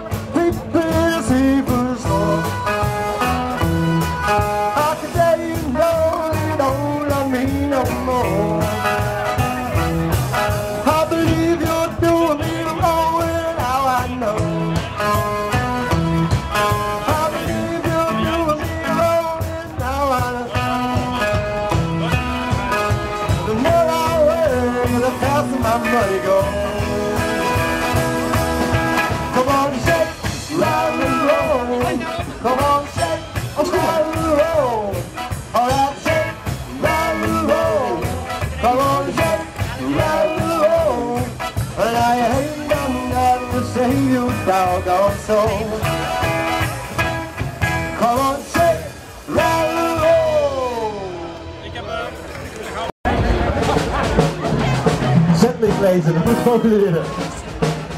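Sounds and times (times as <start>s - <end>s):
person singing: 0.0s - 46.4s, 47.9s - 51.4s
electric guitar: 0.0s - 57.9s
upright double bass: 0.0s - 57.9s.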